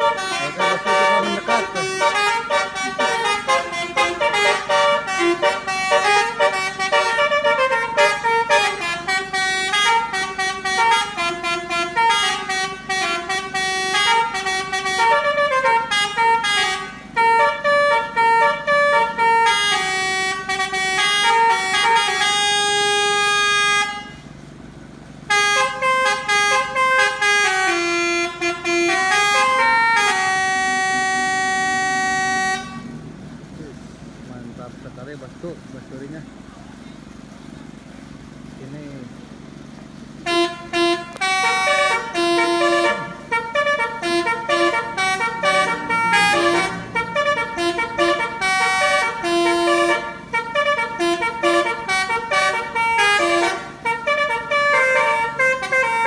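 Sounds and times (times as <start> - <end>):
multi-tone bus horn melody: 0.0 - 33.1, 38.4 - 56.0.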